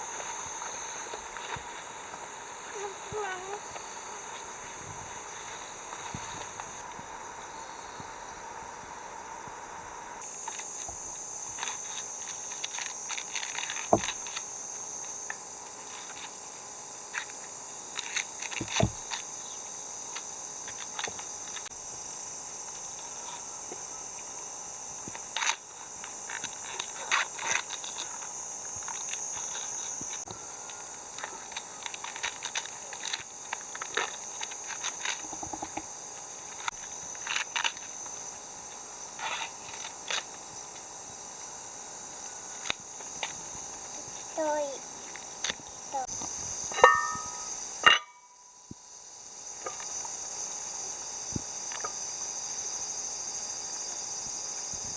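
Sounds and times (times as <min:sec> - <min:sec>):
insect chorus: 0:00.0 - 0:54.9.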